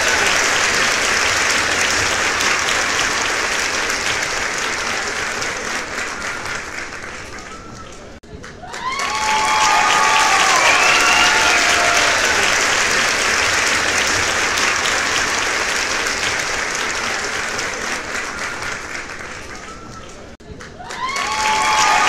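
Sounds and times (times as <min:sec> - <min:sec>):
audience applauding: 0:00.0 - 0:22.0
people cheering: 0:00.0 - 0:22.0.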